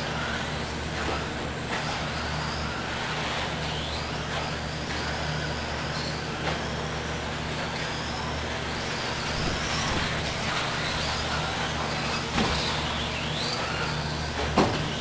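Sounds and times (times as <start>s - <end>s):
electric motors whining: 0.0s - 15.0s
steady low hum: 0.0s - 15.0s.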